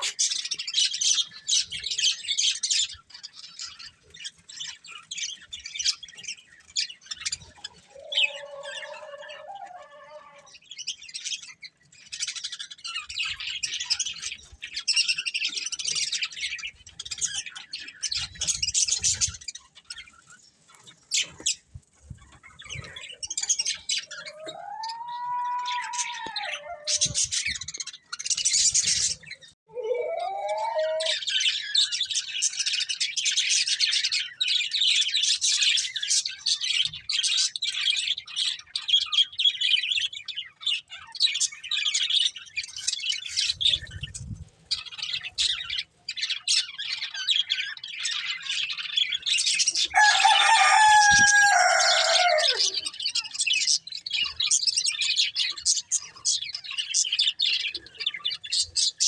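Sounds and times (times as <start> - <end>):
budgerigars chirping and warbling: 0.0 - 29.6, 30.2 - 59.0
lower pitched bird calls: 0.0 - 59.0.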